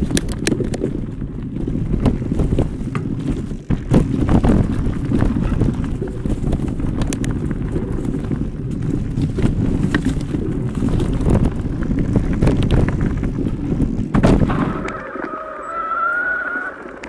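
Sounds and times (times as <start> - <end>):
bike rattling and knocking: 0.0 - 15.1
tyres rumbling on dirt trail: 0.0 - 17.0
wind on microphone: 0.0 - 17.0.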